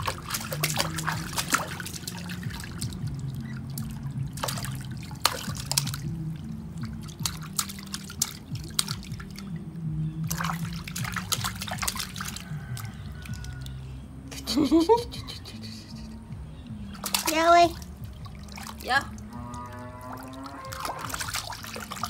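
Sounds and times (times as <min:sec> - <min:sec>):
hands slapping water: 0:00.0 - 0:13.8, 0:16.7 - 0:19.4, 0:20.1 - 0:22.0
bathwater splashing and trickling: 0:00.0 - 0:14.3, 0:16.7 - 0:22.0.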